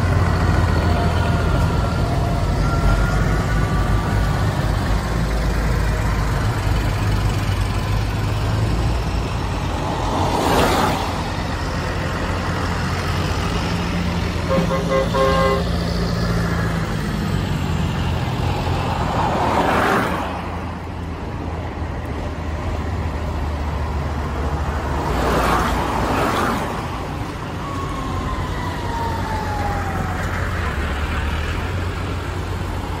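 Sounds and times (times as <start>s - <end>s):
diesel engine rumble: 0.0s - 19.6s, 20.3s - 33.0s.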